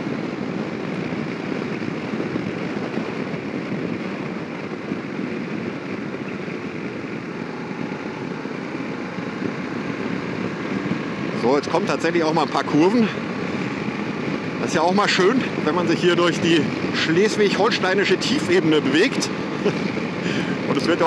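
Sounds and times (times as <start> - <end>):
motorcycle engine: 0.0 - 21.0
wind and road noise: 0.0 - 21.0.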